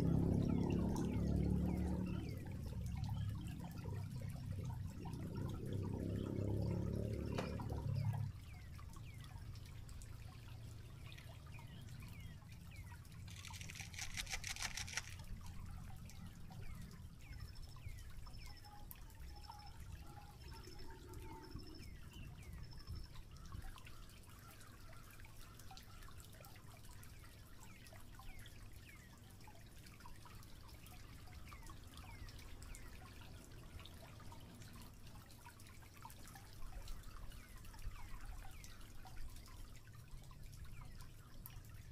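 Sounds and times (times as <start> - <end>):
stream trickling over rocks: 0.0 - 41.9.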